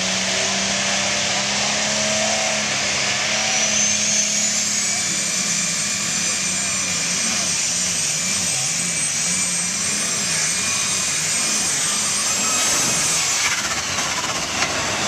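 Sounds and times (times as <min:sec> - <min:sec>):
diesel tractor engine: 0:00.0 - 0:15.0.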